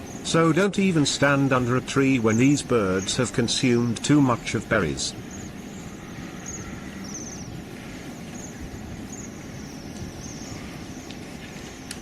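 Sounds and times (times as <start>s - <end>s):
steady background hiss: 0.0s - 12.0s
high thin trilled bird calls: 1.2s - 12.0s.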